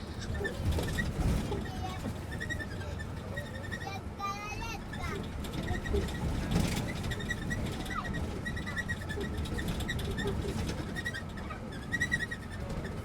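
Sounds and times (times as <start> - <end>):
bus squeaking: 0.0 - 13.0
low bus rumble: 0.0 - 13.0.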